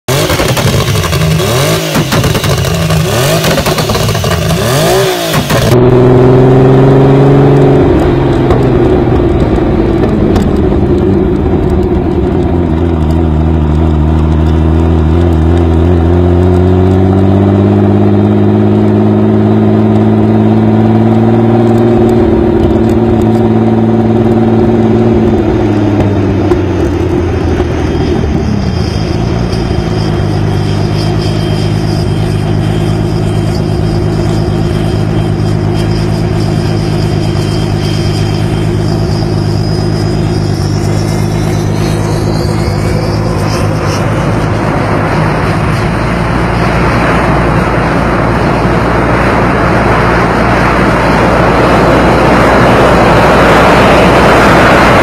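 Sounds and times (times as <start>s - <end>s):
turbocharged car engine revving: 0.0s - 55.0s.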